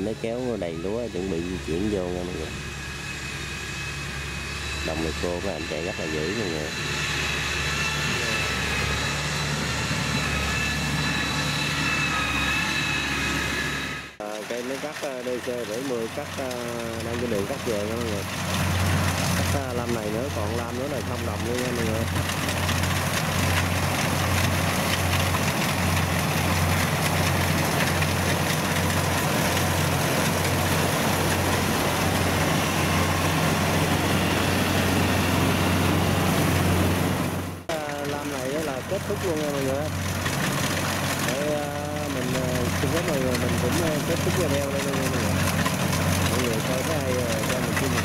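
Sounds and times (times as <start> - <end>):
steady high whine: 0.0 - 48.0
tracked machine engine drone: 0.0 - 48.0.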